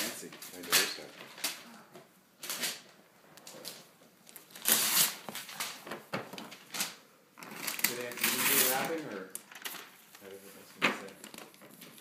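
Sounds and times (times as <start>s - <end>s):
wrapping paper crinkling: 0.0s - 1.8s, 2.4s - 12.0s.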